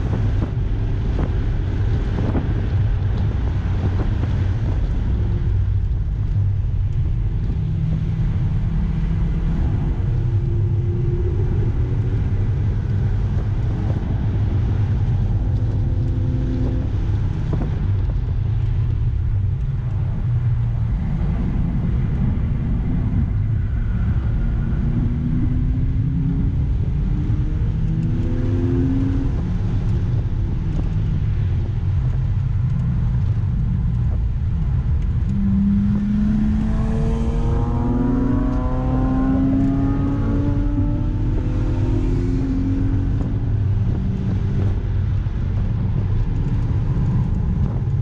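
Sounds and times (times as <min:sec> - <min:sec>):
car engine accelerating: 0:00.0 - 0:48.0
road and wind rumble: 0:00.0 - 0:48.0.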